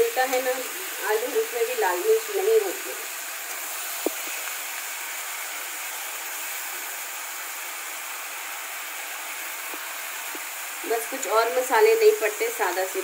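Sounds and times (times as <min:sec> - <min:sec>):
potatoes and onions frying in oil: 0:00.0 - 0:13.0.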